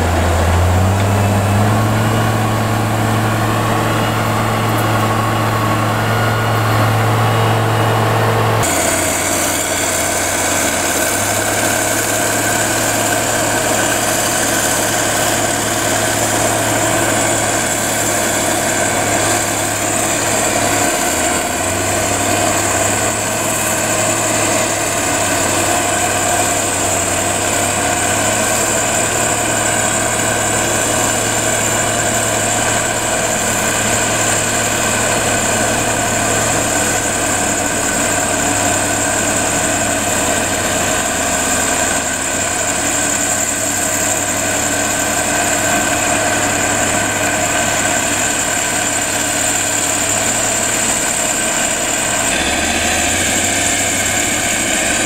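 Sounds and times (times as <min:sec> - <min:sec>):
heavy diesel engines humming: 0:00.0 - 0:55.0.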